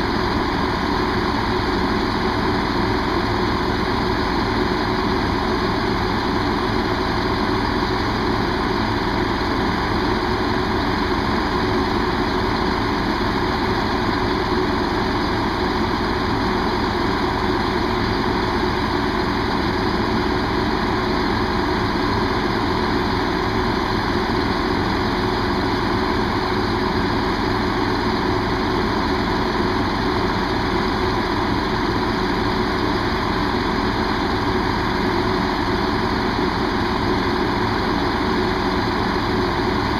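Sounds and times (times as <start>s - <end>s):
diesel train engine idling: 0.0s - 39.9s.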